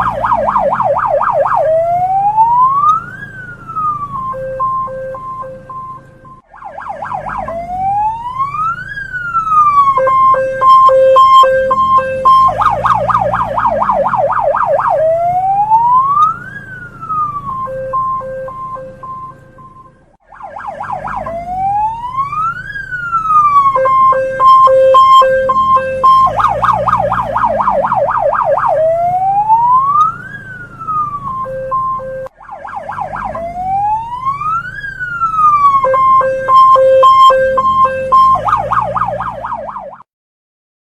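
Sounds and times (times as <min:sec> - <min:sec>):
police car electronic siren: 0:00.0 - 0:40.1.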